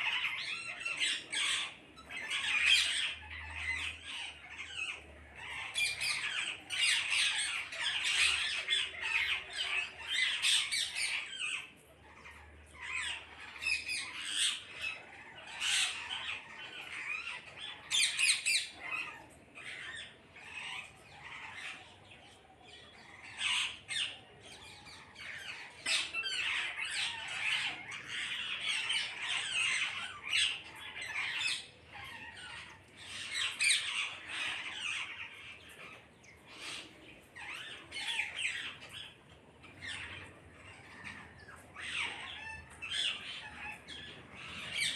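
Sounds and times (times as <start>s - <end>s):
parrots squawking and chattering: 0.0s - 44.9s.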